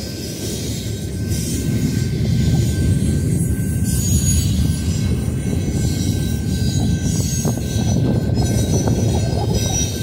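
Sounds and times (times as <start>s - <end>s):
freight train rumbling past: 0.0s - 10.0s
train wheel squeaks: 0.0s - 10.0s.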